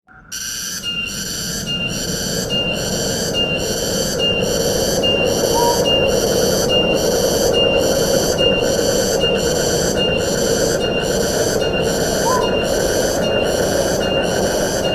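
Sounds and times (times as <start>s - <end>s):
high-pitched buzzing call: 0.2s - 14.9s
wind rushing through trees: 0.2s - 14.9s.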